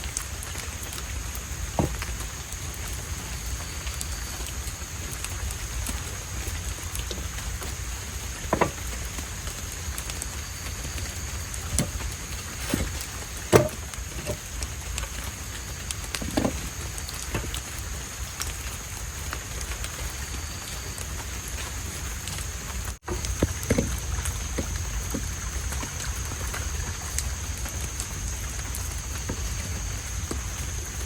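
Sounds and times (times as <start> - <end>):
raindrops tapping a surface: 0.0 - 31.0
steady rain falling: 0.0 - 31.0.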